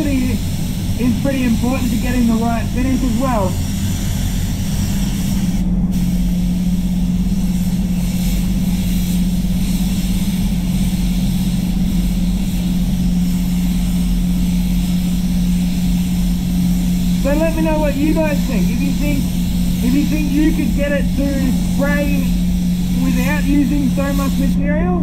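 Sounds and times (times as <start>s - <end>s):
spray booth humming: 0.0s - 25.0s
spray gun air hiss: 0.0s - 25.0s.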